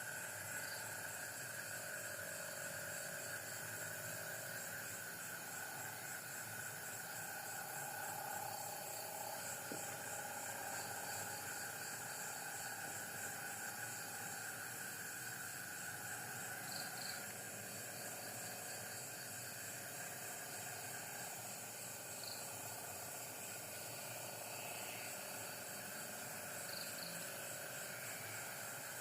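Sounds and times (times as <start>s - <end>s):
crickets chirping: 0.0s - 29.0s
insect noise hiss: 0.0s - 29.0s.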